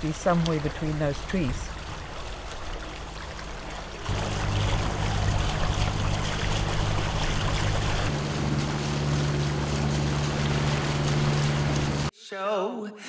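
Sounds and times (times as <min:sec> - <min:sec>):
boat engine humming: 0:00.0 - 0:12.1
rushing water: 0:00.0 - 0:12.1
wind: 0:00.0 - 0:12.1.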